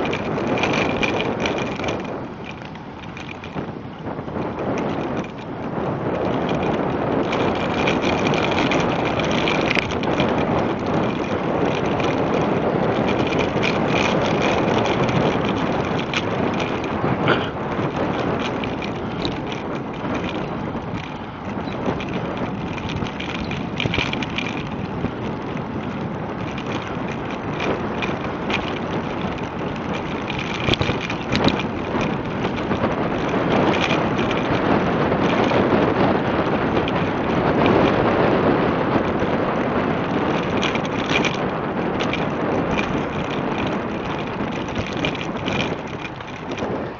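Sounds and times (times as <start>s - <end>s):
bicycle tyre rumble on pavement: 0.0s - 46.9s
wind buffeting microphone: 0.0s - 46.9s.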